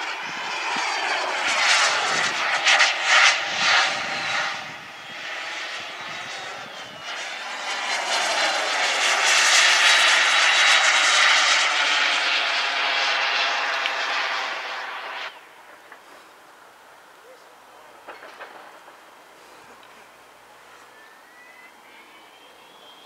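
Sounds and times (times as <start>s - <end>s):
jet turbine whining: 0.0s - 23.0s.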